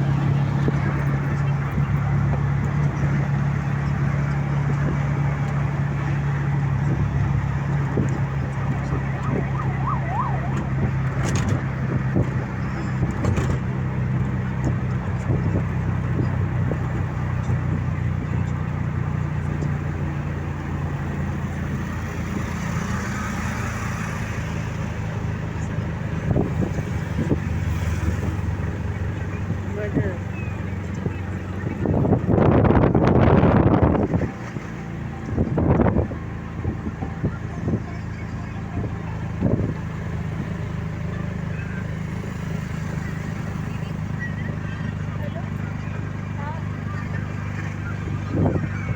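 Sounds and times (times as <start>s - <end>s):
vehicle engine and road noise: 0.0s - 48.9s.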